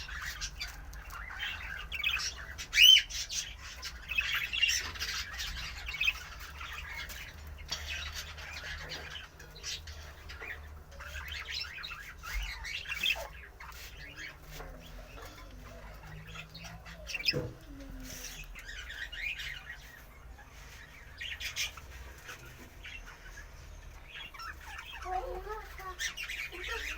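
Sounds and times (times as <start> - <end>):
caged birds chirping: 0.0 - 26.9.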